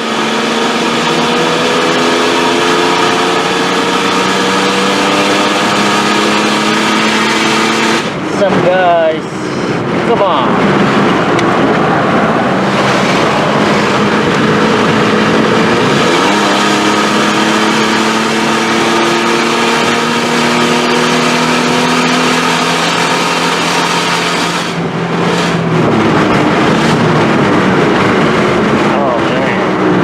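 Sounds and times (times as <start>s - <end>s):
pickup engine running under load: 0.0s - 30.0s
road noise: 0.0s - 30.0s
wind noise: 0.0s - 30.0s.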